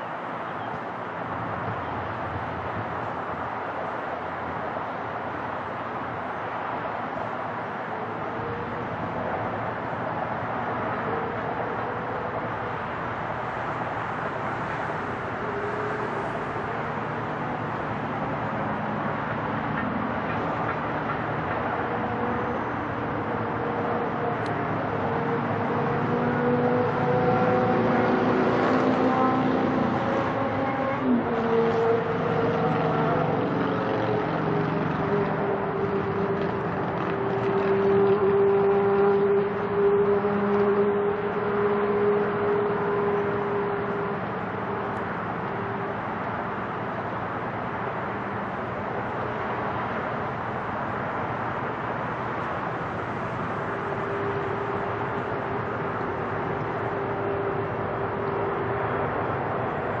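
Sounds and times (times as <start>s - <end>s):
jet engines rushing overhead: 0.0s - 60.0s.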